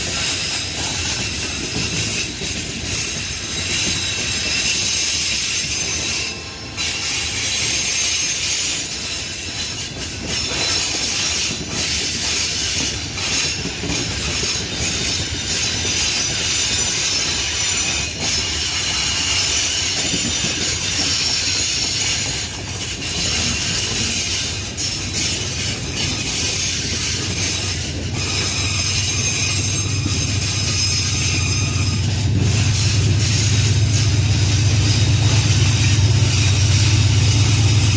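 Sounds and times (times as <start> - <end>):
high-pitched wheel squeal: 0.1 - 37.9.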